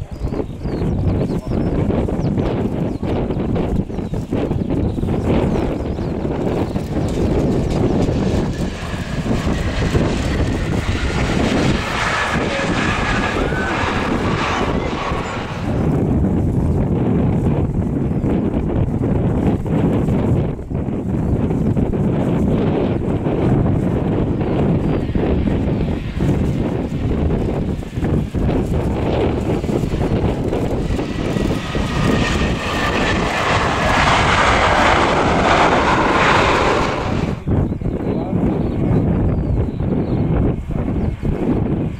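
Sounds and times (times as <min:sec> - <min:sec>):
jet engines rumbling and whining: 0:00.0 - 0:41.9.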